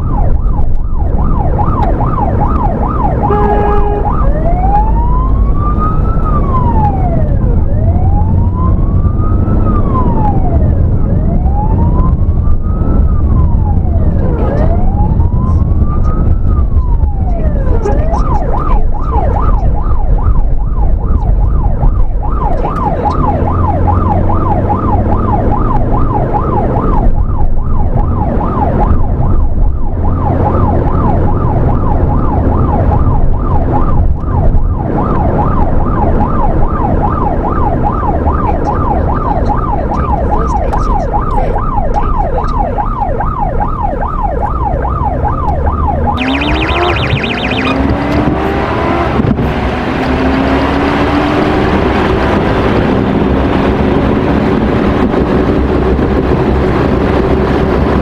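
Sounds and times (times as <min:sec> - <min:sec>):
siren yelping: 0:00.0 - 0:58.0
vehicle engine and road noise: 0:00.0 - 0:58.0.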